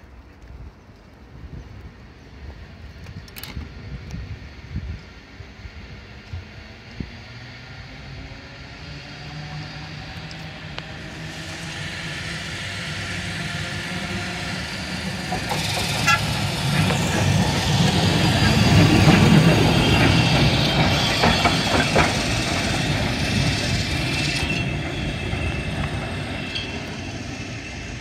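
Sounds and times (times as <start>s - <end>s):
wheels rumbling on rails: 0.0s - 28.0s
tram motor hum: 3.8s - 28.0s.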